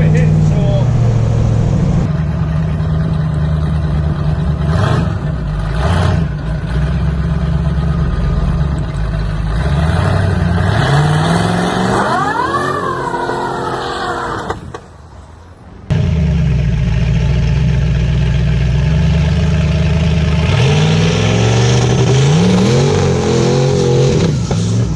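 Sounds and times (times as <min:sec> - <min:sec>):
drag car engine revving: 0:00.0 - 0:14.6, 0:15.9 - 0:24.9.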